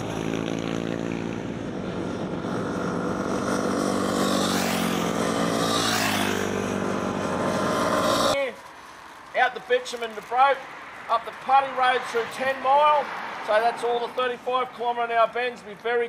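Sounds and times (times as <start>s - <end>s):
motorcycles riding by: 0.0s - 14.2s
road and wind noise: 0.0s - 16.0s.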